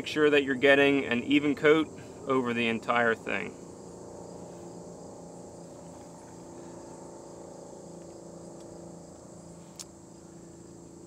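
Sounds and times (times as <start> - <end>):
faint low hum: 0.0 - 11.0
insect chorus: 0.0 - 11.0.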